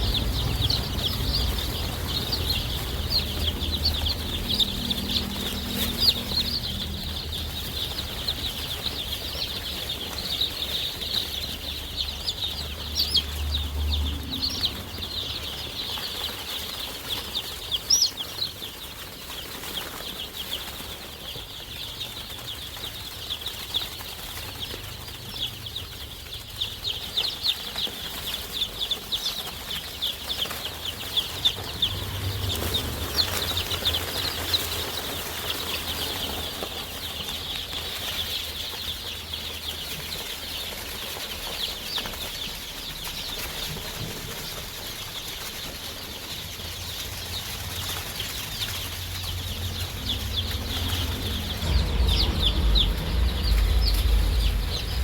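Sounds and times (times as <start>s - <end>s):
chicks chirping and peeping: 0.0s - 55.0s.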